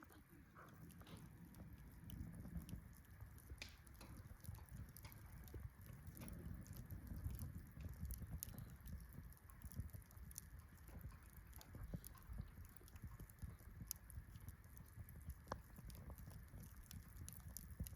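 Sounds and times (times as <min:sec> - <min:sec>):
campfire crackling: 0:00.0 - 0:17.9
low steady rumble: 0:00.0 - 0:17.9.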